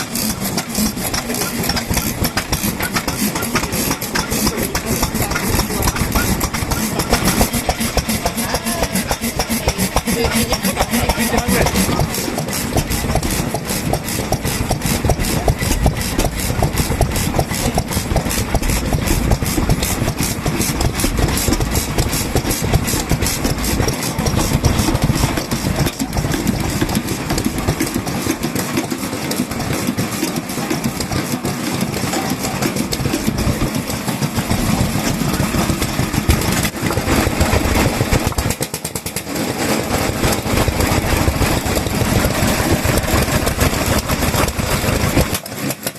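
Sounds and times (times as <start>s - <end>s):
stationary engines chugging: 0.0s - 45.9s.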